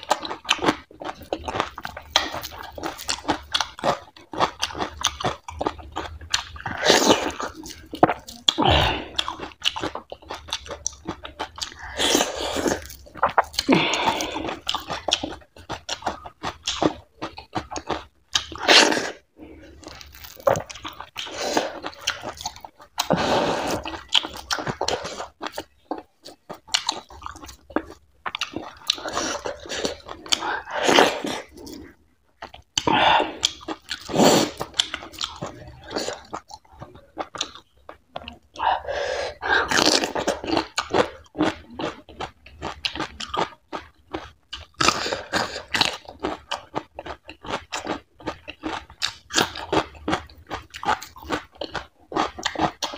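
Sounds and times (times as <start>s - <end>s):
person chewing and lip-smacking: 0.0s - 52.9s.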